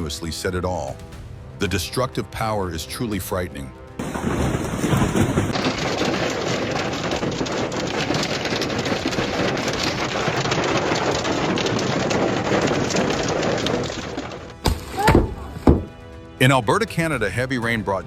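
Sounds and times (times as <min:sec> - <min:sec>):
hailstones clattering: 0:01.0 - 0:18.0.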